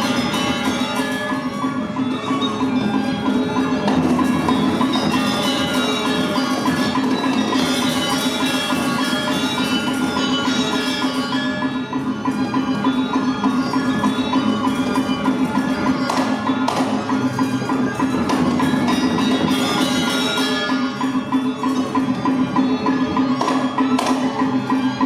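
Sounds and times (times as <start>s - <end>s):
gamelan metallophones ringing: 0.0s - 25.0s.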